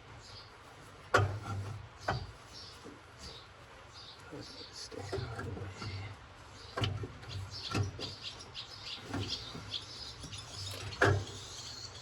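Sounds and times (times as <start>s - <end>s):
birds chirping: 2.0s - 12.0s.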